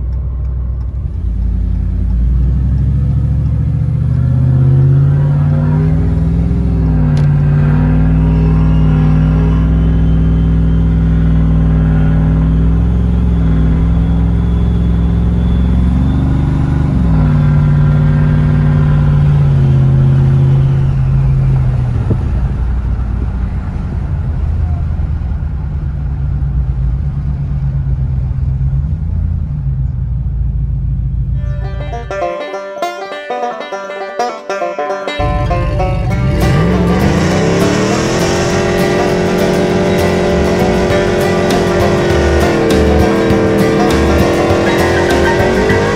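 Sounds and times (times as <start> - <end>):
truck engine from inside cab: 0.0 - 45.9.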